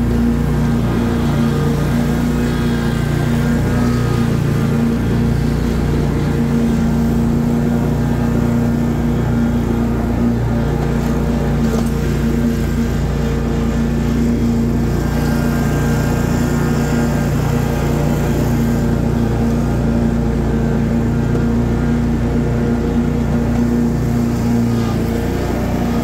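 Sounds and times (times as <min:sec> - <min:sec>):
lawn mower engine droning: 0:00.0 - 0:26.0.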